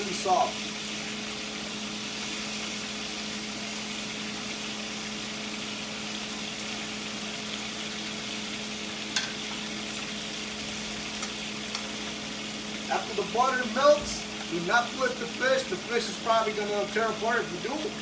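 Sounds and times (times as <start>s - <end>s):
fish sizzling in a skillet: 0.0s - 18.0s.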